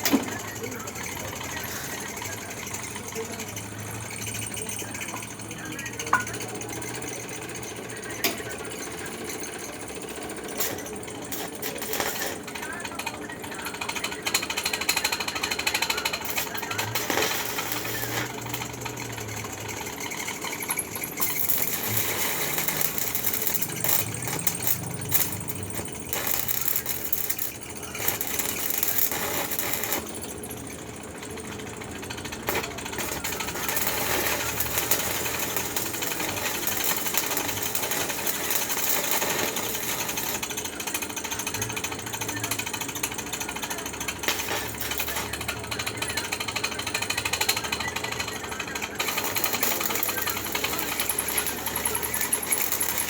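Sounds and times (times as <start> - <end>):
welding arc crackling: 0.0 - 53.0.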